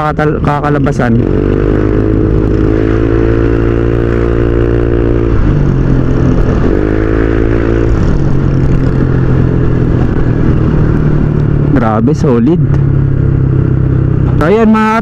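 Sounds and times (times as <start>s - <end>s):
scooter engine revving: 0.4s - 15.0s.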